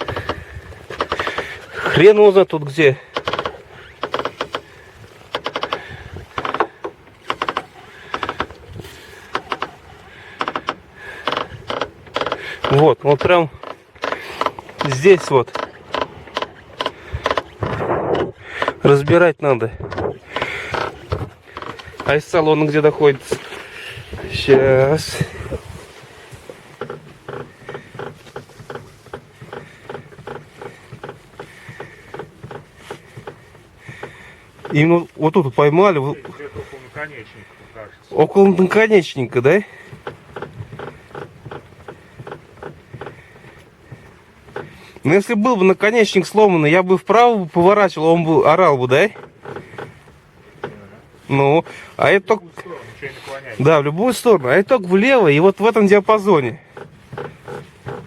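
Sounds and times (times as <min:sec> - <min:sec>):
car suspension crackling: 0:00.0 - 0:58.0.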